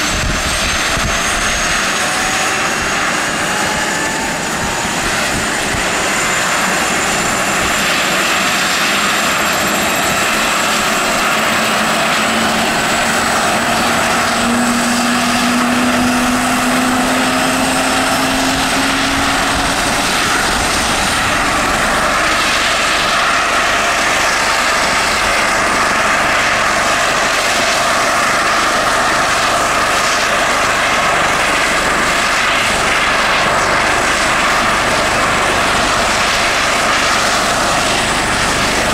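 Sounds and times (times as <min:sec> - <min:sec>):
helicopter turbine whine: 0:00.0 - 0:38.9
loud rushing noise: 0:00.0 - 0:38.9
low rotor drone: 0:00.0 - 0:38.9.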